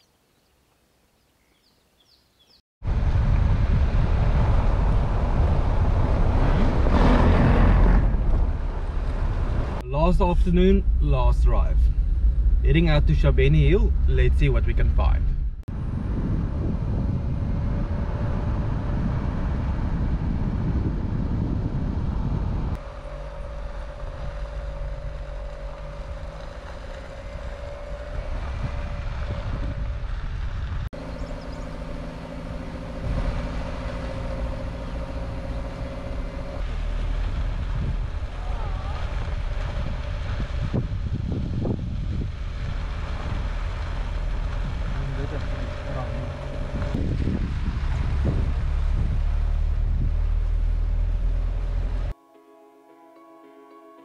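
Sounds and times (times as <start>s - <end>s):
car engine and road rumble: 2.8s - 52.2s.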